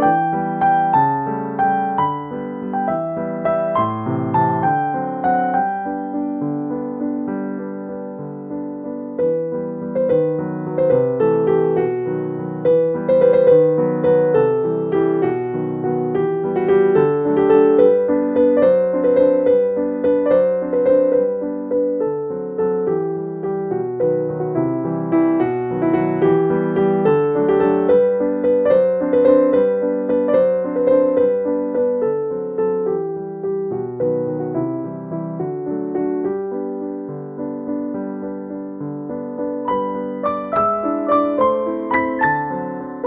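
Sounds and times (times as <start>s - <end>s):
piano notes: 0.0s - 43.0s.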